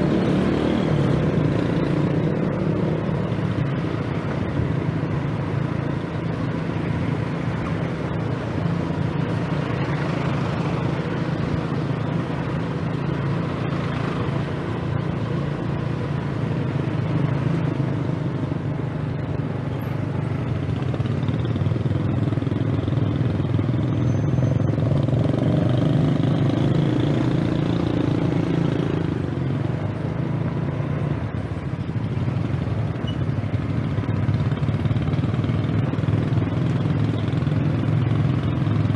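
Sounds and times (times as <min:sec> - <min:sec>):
road noise: 0:00.0 - 0:38.9
wind: 0:00.0 - 0:38.9.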